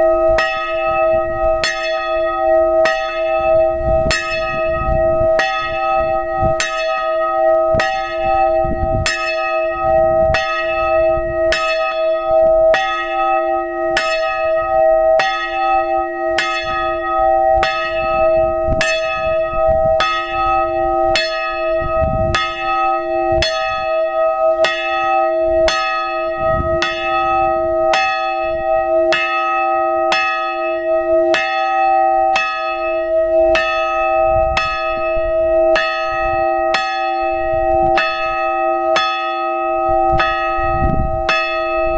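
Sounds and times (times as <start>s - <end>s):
church bell ringing: 0.0s - 41.9s.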